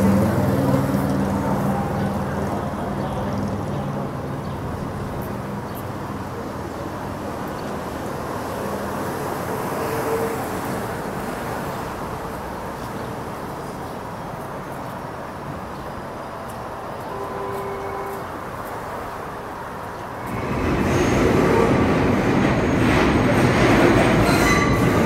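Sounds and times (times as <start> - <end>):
steady hum of traffic: 0.0 - 25.0.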